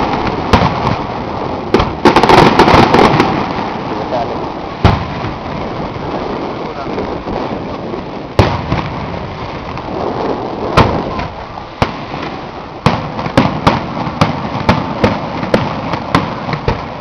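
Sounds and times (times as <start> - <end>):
fireworks bursting with bangs: 0.0 - 17.0.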